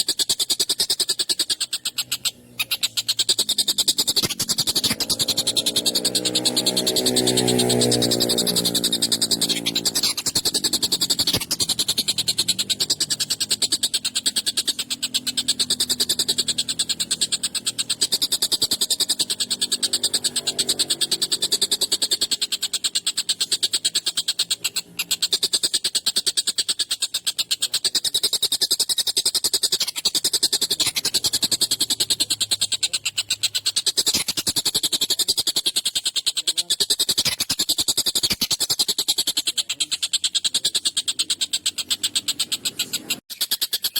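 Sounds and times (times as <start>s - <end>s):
kingfisher rattling trill: 0.0s - 43.9s.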